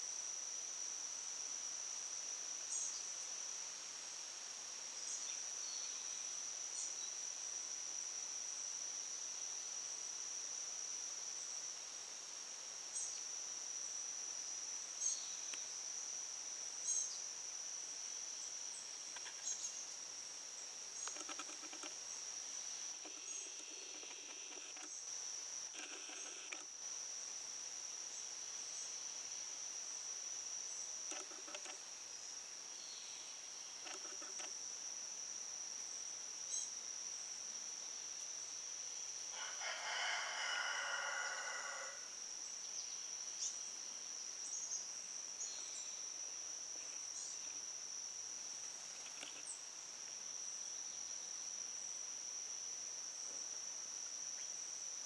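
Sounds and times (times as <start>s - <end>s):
high insect trill: 0.0s - 55.0s.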